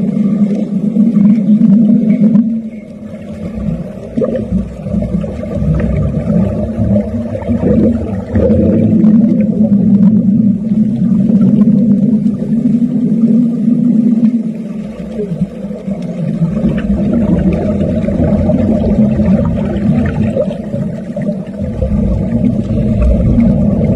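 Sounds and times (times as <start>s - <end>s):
underwater welding arc humming: 0.0s - 23.9s.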